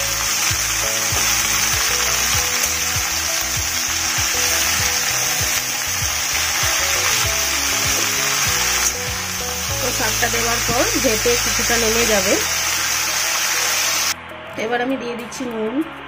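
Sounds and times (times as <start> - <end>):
leaves sizzling in oil: 0.0 - 14.2.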